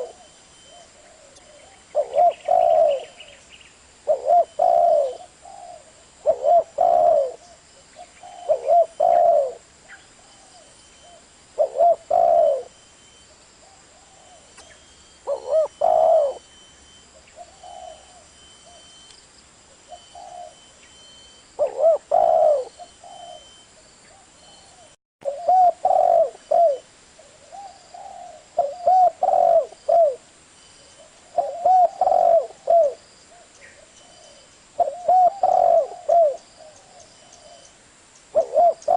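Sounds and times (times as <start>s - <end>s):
dove cooing: 0.0s - 3.4s, 4.0s - 12.8s, 13.6s - 19.0s, 19.7s - 20.8s, 21.6s - 30.3s, 30.9s - 37.7s, 38.3s - 38.9s.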